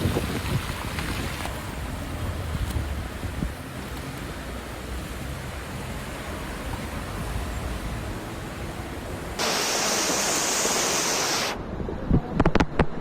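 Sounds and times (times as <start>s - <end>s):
floodwater rushing: 0.0s - 11.6s.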